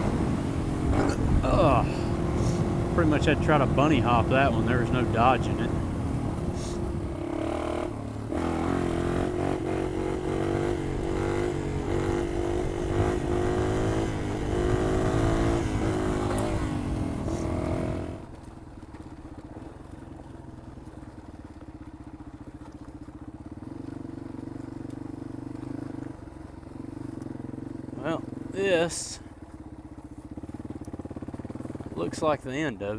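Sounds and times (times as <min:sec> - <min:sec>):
motorcycle engine revving: 0:00.0 - 0:18.4, 0:23.2 - 0:32.2
motorcycle engine idling: 0:00.0 - 0:32.9.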